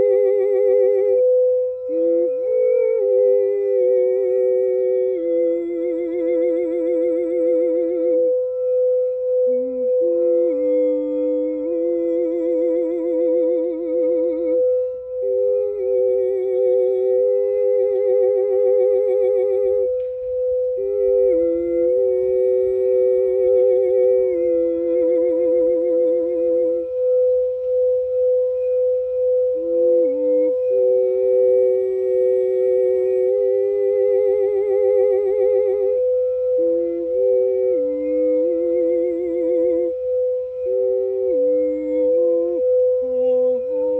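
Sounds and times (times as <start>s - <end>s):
singing bowl ringing: 0.0s - 2.7s, 3.4s - 43.9s.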